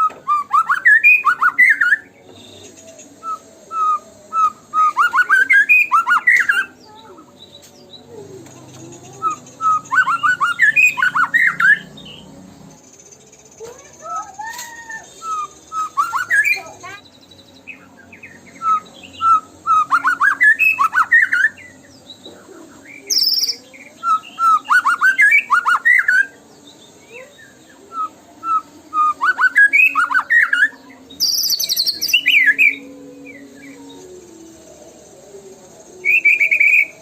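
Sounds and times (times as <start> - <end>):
bird whistled song: 0.0 - 34.4, 35.0 - 37.0.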